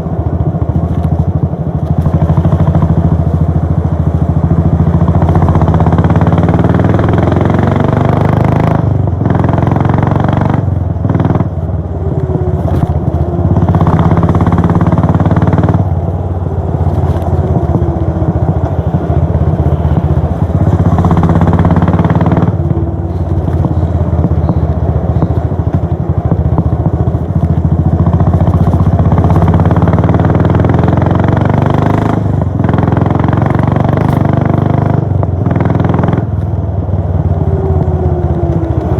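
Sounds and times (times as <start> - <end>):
motorcycle exhaust thumping: 0.0 - 38.9.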